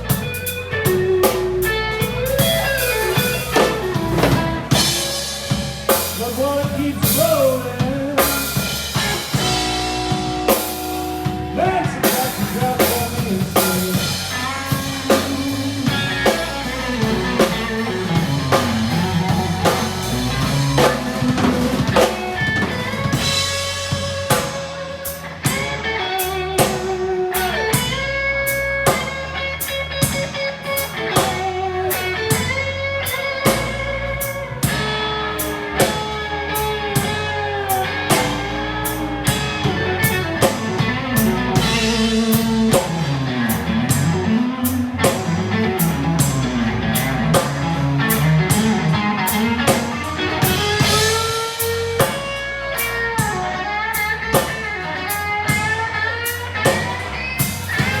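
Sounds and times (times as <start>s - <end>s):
drum kit: 0.0s - 58.0s
electric blues band playing: 0.0s - 58.0s
lead electric guitar: 0.0s - 58.0s.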